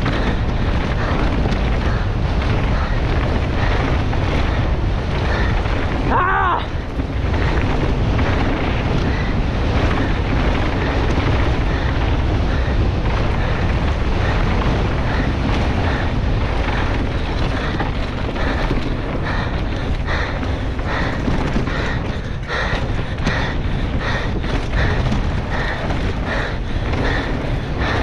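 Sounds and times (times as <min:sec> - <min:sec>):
tyres on loose gravel: 0:00.0 - 0:28.0
wind rushing on microphone: 0:00.0 - 0:28.0.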